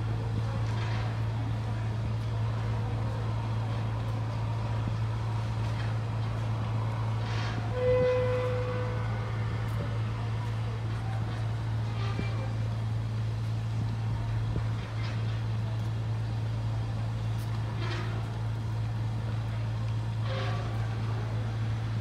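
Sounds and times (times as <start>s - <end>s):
ship engine drone: 0.0s - 22.0s.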